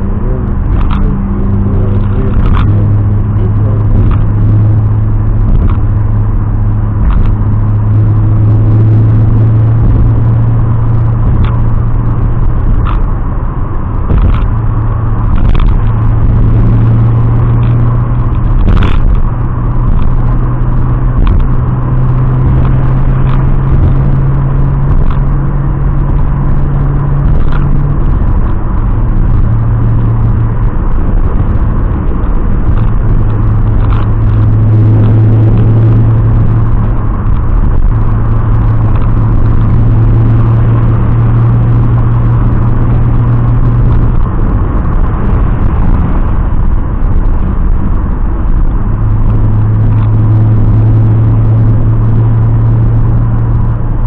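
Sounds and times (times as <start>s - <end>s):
car engine driving: 0.0s - 54.0s.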